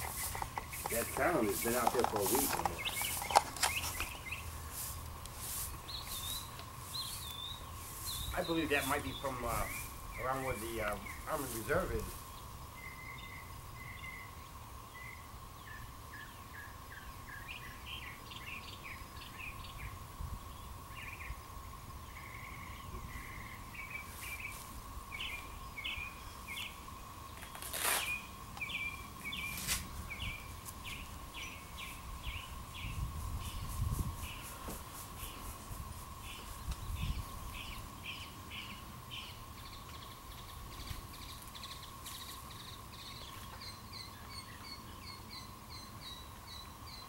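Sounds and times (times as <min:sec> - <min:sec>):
distant cicada chorus drone: 0:00.0 - 0:47.0
small birds chirping: 0:00.0 - 0:47.0.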